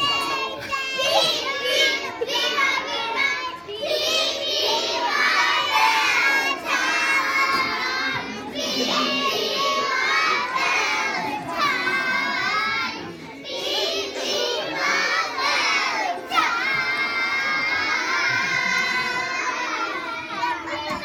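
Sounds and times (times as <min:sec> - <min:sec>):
children shouting high-pitched: 0:00.0 - 0:21.0.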